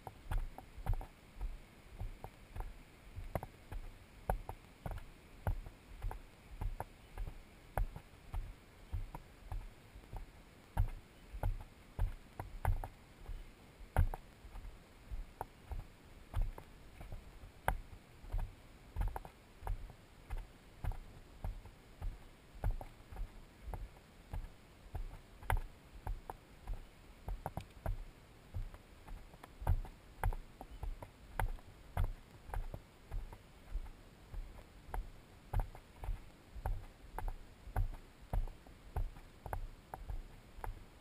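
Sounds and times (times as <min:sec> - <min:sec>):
footsteps on dirt trail: 0:00.0 - 0:40.8.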